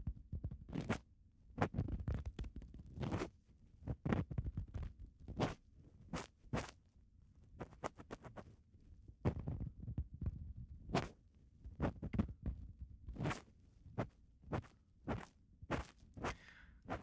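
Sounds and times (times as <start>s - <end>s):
ear pick scratching: 0.3s - 1.0s, 1.6s - 6.8s, 7.6s - 8.6s, 9.2s - 17.0s.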